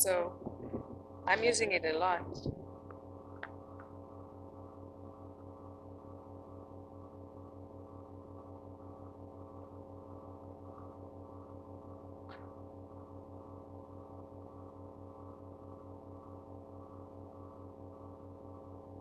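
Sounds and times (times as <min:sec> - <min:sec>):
steady low throbbing hum: 0:00.0 - 0:19.0.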